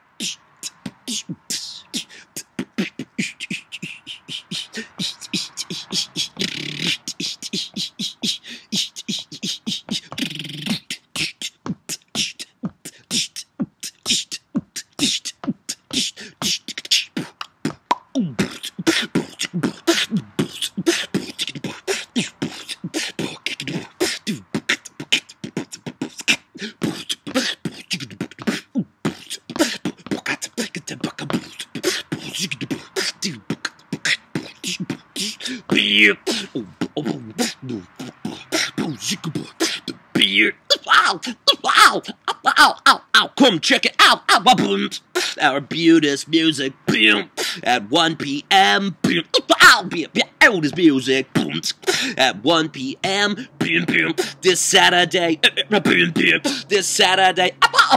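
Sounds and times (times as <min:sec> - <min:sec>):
beatboxing mouth percussion: 0:00.0 - 0:57.9.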